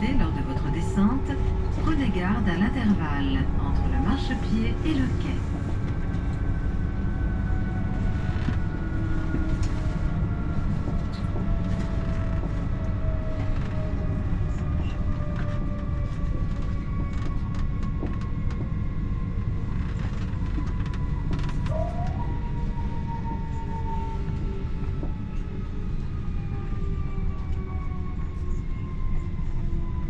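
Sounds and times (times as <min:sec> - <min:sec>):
train interior rumble: 0:00.0 - 0:30.0.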